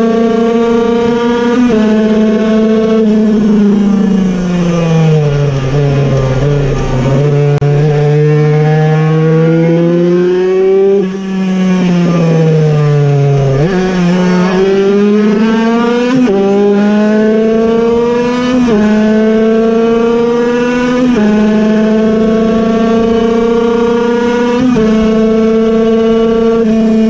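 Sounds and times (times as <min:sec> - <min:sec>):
two-stroke moped engine at full throttle: 0:00.0 - 0:27.0.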